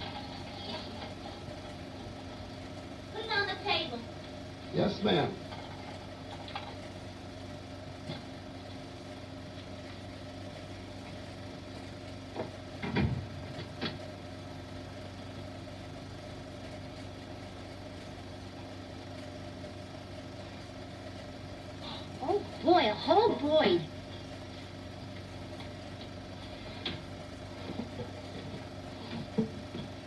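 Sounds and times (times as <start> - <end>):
film soundtrack hum and hiss: 0.0 - 30.0.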